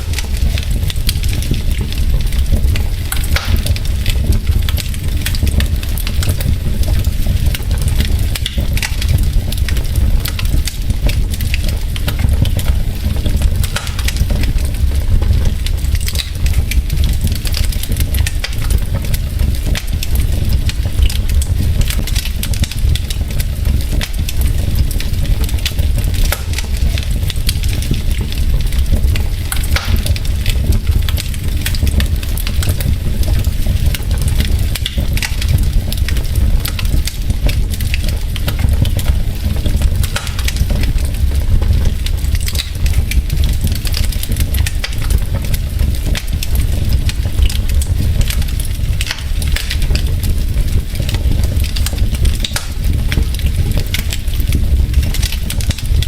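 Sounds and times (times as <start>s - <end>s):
logs crackling and popping in fire: 0.0s - 56.0s
low rumble of fire: 0.0s - 56.0s.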